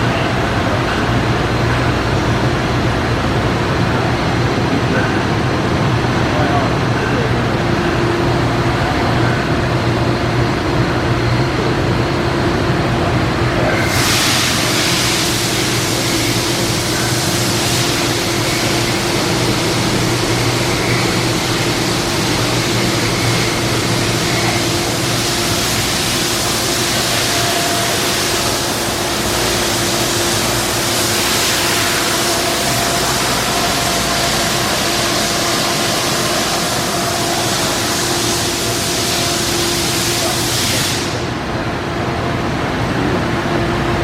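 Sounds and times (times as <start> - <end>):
constant hum: 0.0 - 44.0.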